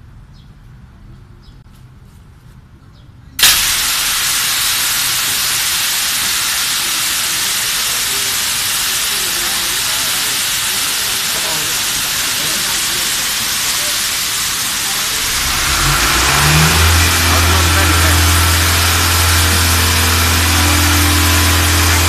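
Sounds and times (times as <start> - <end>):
water spraying under pressure: 3.4 - 22.0.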